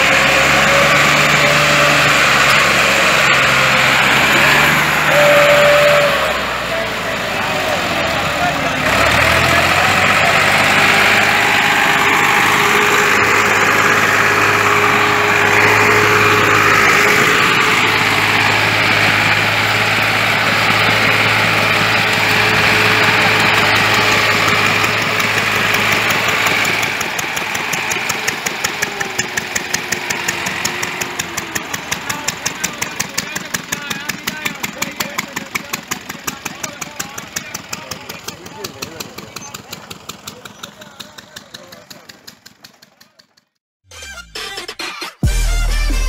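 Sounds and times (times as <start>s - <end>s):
tractor diesel engine running: 0.0s - 43.6s.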